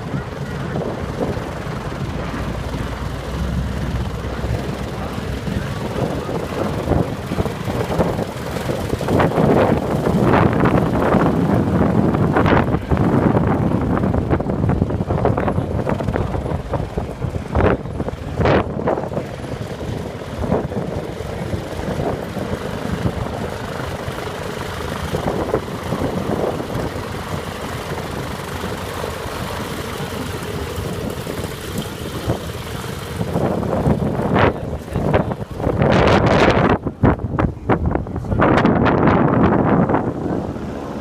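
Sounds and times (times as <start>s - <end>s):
propeller airplane engine droning: 0.0s - 41.0s
wind buffeting microphone: 0.0s - 41.0s.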